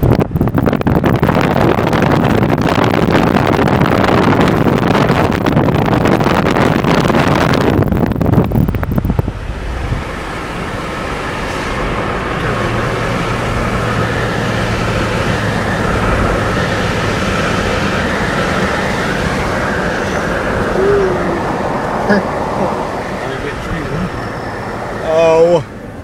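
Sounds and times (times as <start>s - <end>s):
engine and tyre hum: 0.0s - 26.0s.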